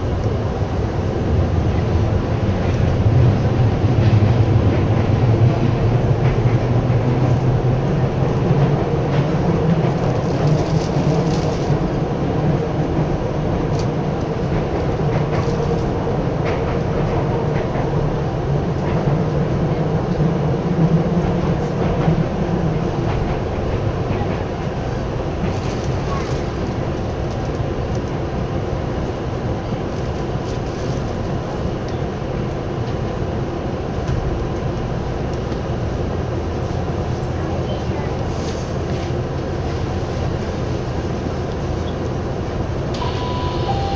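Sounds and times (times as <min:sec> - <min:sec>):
low rumble of train wheels: 0:00.0 - 0:43.9.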